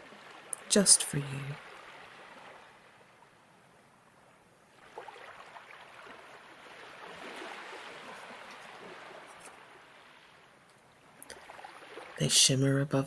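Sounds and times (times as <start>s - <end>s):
gentle ocean wave washing in: 0.0s - 3.4s, 4.2s - 12.2s.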